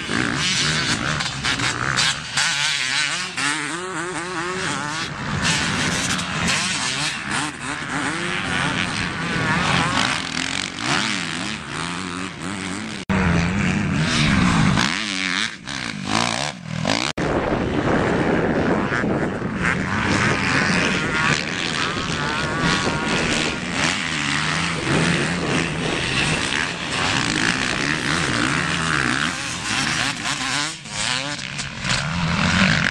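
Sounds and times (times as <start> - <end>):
dirt bike engines revving: 0.0 - 32.9.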